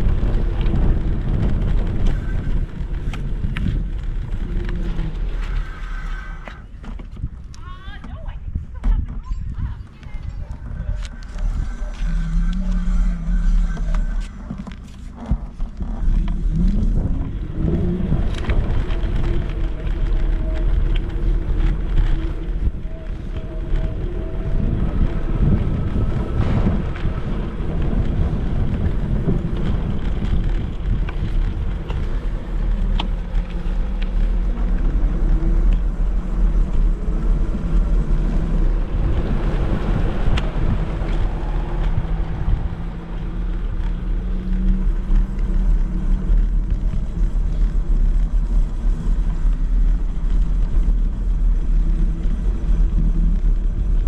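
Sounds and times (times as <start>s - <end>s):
heavy low rumble: 0.0s - 54.0s
wind on microphone: 0.0s - 54.0s.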